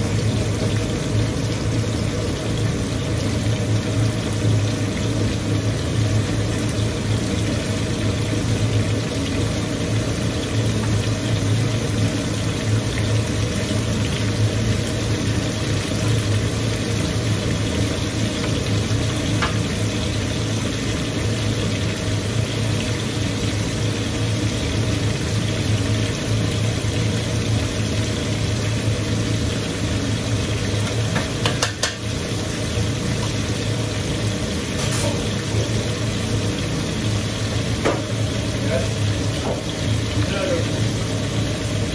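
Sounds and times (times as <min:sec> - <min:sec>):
meat sizzling in a tray: 0:00.0 - 0:41.9.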